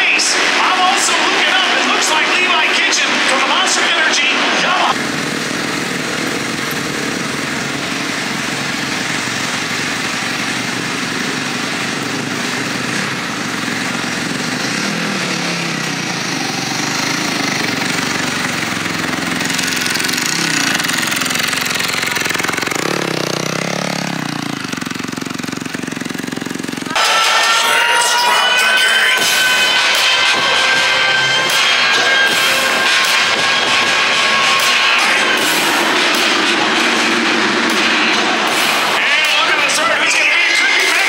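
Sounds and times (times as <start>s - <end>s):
dirt bike engines running: 0.0s - 41.0s.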